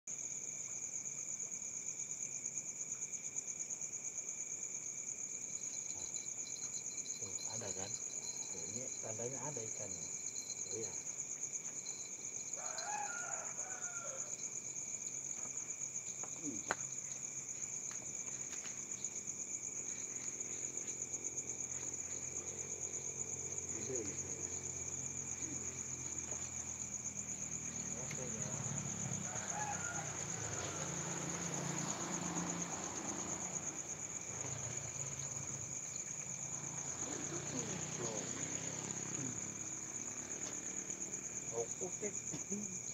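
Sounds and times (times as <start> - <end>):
crickets trilling: 0.1 - 42.9.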